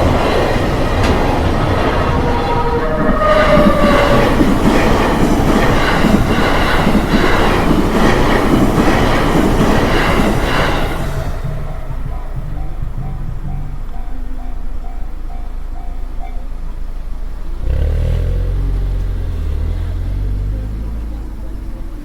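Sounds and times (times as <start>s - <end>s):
train wheels clattering: 0.0s - 22.0s.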